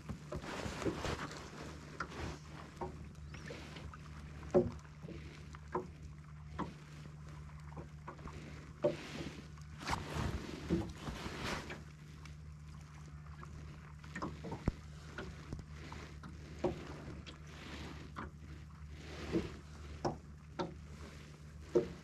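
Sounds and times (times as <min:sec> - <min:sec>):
steady low hum: 0:00.0 - 0:22.0
water lapping against boat hull: 0:00.0 - 0:22.0.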